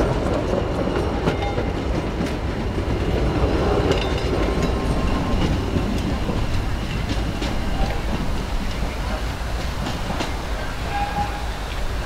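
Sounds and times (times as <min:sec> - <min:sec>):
rail joint clicks: 0:00.0 - 0:12.0
train wheels rumbling on rails: 0:00.0 - 0:12.0.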